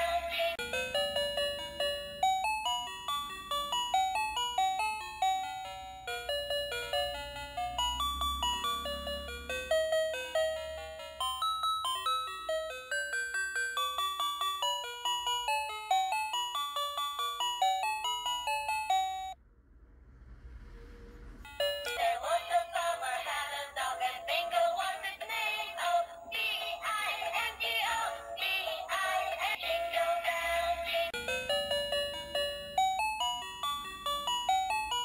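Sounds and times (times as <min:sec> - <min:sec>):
toy playing electronic chiming melody: 0:00.0 - 0:19.4, 0:21.4 - 0:35.0.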